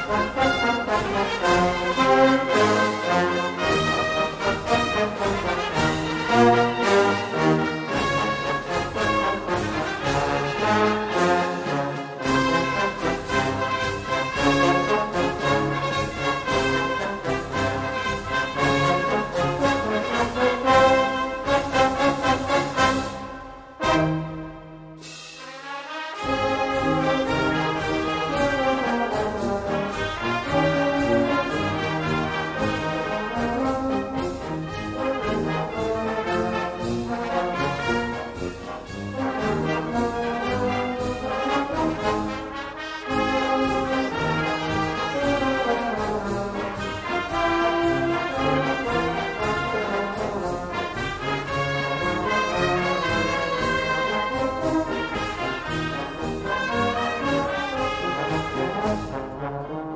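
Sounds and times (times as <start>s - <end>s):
steady drum beat: 0.0s - 59.2s
wind band playing a march: 0.0s - 59.9s.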